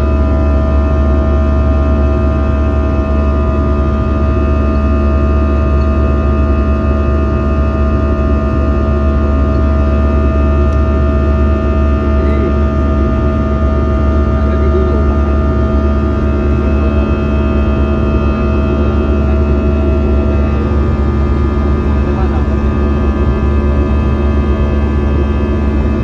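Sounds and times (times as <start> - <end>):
airliner cabin rumble: 0.0 - 26.0
steady humming tones: 0.0 - 26.0.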